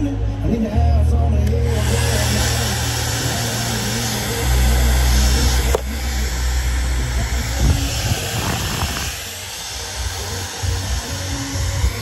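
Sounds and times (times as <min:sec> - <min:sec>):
hair dryer blowing: 0:01.5 - 0:12.0.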